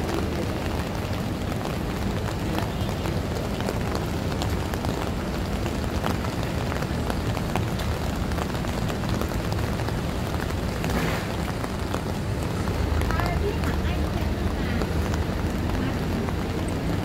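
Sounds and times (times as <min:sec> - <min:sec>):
rain on wet pavement: 0:00.0 - 0:17.0.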